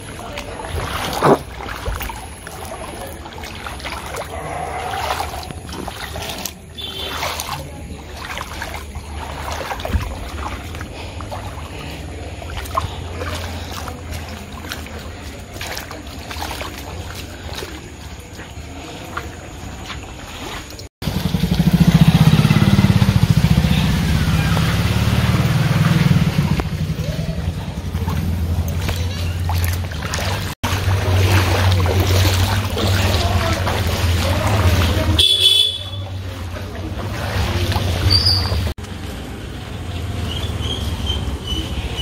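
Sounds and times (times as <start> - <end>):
vehicle engines humming: 0.0 - 19.5, 21.0 - 42.0
people's voices: 0.0 - 20.8, 22.4 - 42.0.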